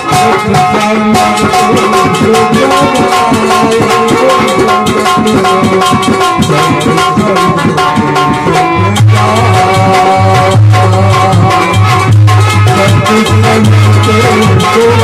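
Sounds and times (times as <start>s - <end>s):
hand drums: 0.0s - 15.0s
held melody notes: 0.0s - 15.0s.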